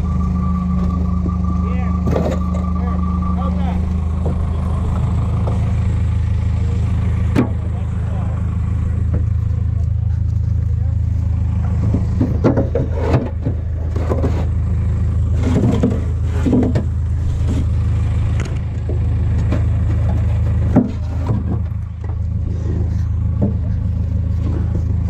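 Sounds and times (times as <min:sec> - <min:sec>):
heavy machine engine droning: 0:00.0 - 0:25.0
metal clanks and knocks: 0:00.6 - 0:03.0, 0:03.8 - 0:25.0.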